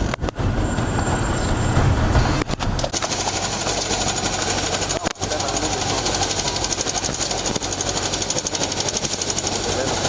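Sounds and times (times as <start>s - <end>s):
fast mechanical rattle: 0.0s - 10.0s
vehicle engine rumble: 0.0s - 10.0s.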